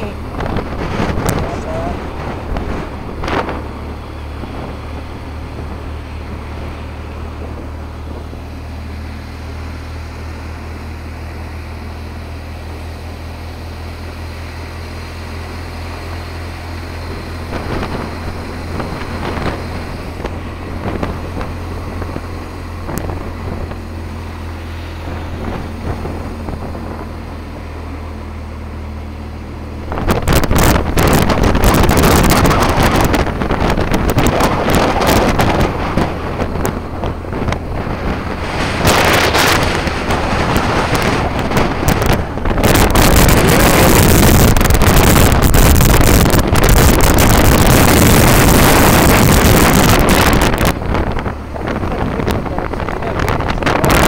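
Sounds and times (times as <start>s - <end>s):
vehicle engine droning: 0.0s - 54.0s
wind rushing over microphone: 0.0s - 54.0s.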